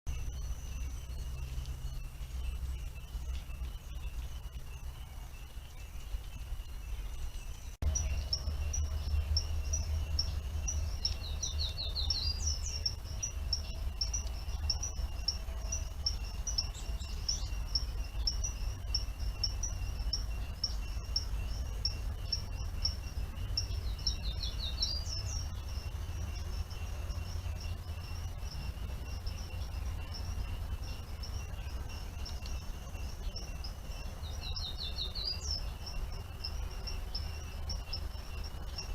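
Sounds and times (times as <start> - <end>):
birds chirping: 0.1 - 38.9
high-pitched insect trill: 0.1 - 38.9
low steady rumble: 0.1 - 38.9.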